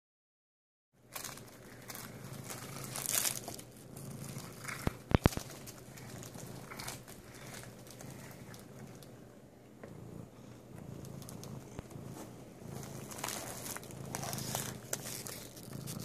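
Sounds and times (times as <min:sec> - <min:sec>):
cellophane crinkling: 0:01.1 - 0:09.1, 0:10.8 - 0:16.0.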